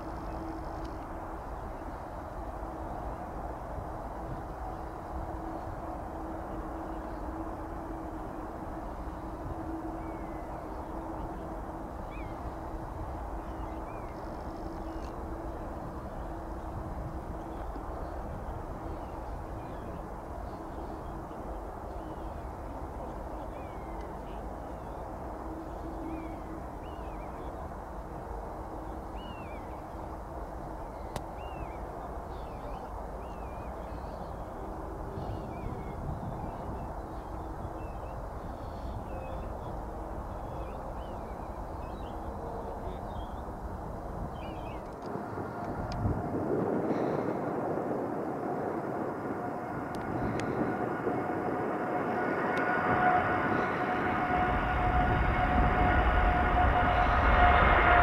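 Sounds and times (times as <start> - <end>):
distant jet engines rumbling: 0.0 - 58.0.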